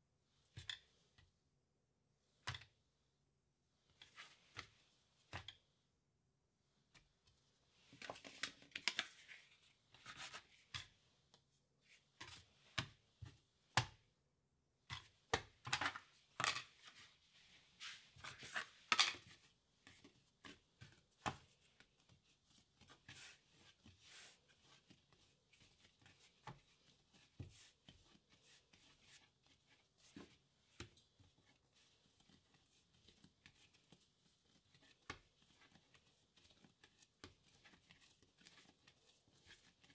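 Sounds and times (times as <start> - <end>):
hands shaping dough on wood: 0.2 - 39.9.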